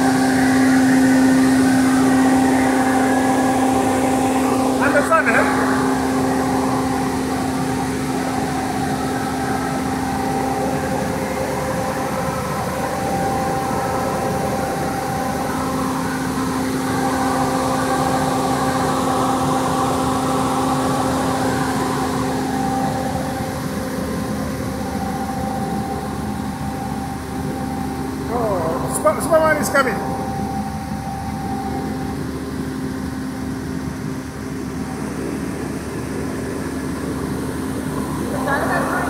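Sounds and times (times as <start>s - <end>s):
diesel engine idling: 0.0s - 35.5s.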